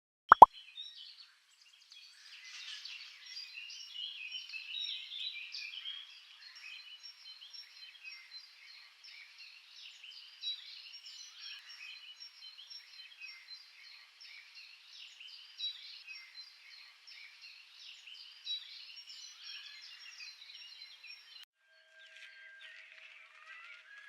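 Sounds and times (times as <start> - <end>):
songbirds chirping and trilling: 0.5 - 21.4.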